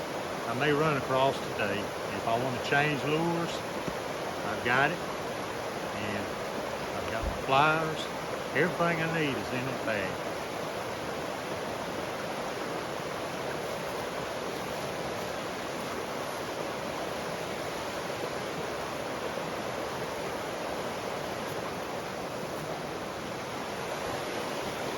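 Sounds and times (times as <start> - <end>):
creek water rushing: 0.0 - 24.9.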